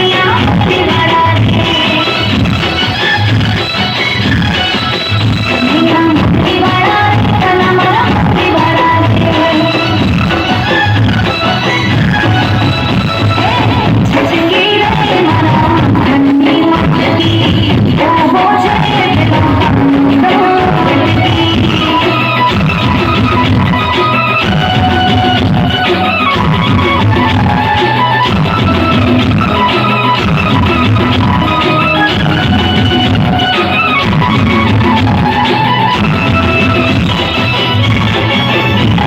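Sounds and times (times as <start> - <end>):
loud music with steady beat: 0.0 - 39.0.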